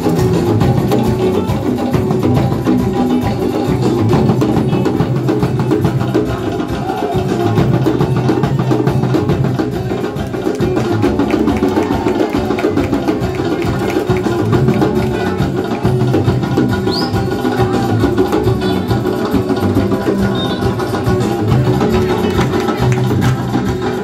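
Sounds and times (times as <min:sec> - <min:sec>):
musical backing: 0:00.0 - 0:24.0.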